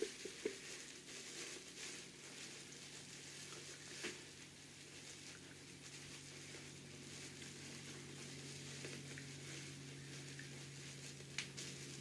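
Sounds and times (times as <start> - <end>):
fabric rustling and crinkling: 0.0 - 12.0
steady low hum: 0.0 - 12.0.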